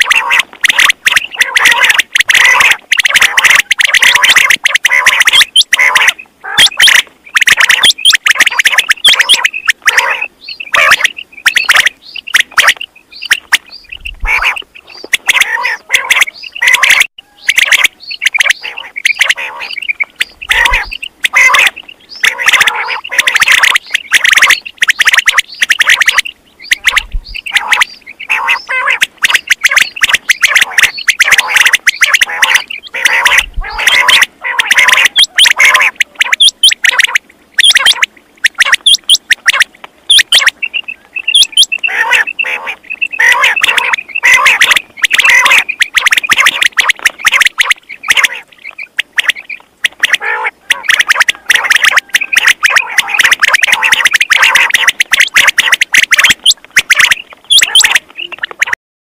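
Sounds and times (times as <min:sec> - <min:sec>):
quail calls chirping: 0:00.0 - 0:58.8.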